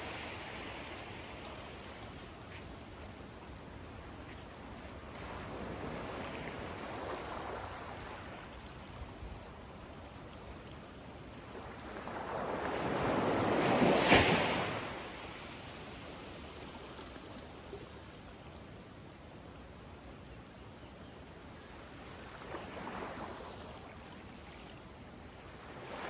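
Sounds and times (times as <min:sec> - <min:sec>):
small waves lapping on sand: 0:00.0 - 0:20.4, 0:21.2 - 0:26.0.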